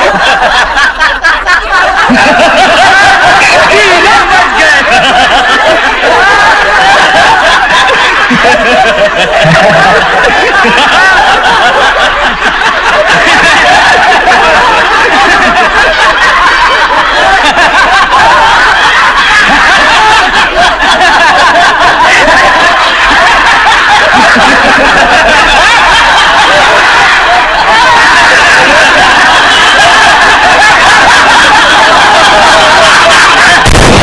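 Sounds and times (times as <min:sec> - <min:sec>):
men laughing loudly: 0:00.0 - 0:34.0.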